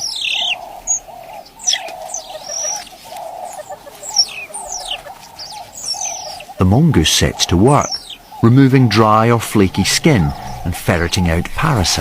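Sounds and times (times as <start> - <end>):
birds whistling: 0.0 - 12.0
doves cooing: 0.0 - 12.0.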